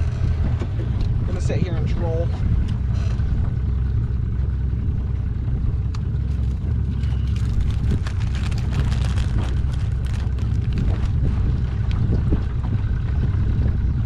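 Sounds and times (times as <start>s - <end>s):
boat motor low rumble: 0.0s - 14.0s.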